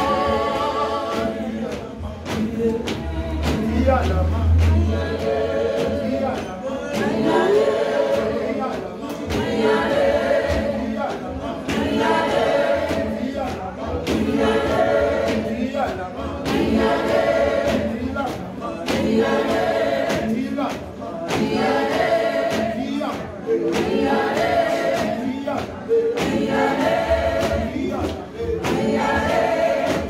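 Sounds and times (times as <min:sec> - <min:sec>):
congregation singing in chorus: 0:00.0 - 0:30.0
rhythmic hand clapping: 0:00.0 - 0:30.0.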